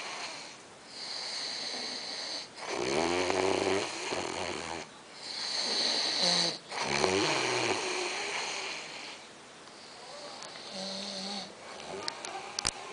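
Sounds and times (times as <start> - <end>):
person snoring: 0.0 - 9.0, 9.9 - 12.1.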